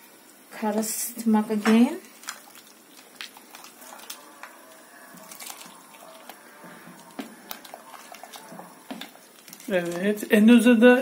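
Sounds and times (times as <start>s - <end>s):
soup simmering in a pot: 0.0s - 10.9s.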